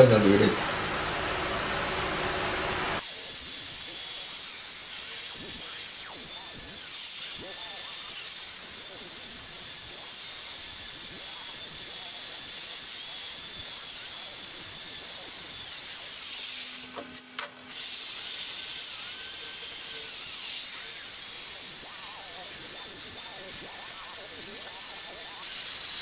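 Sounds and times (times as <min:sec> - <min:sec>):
die grinder grinding metal: 0:00.0 - 0:26.0.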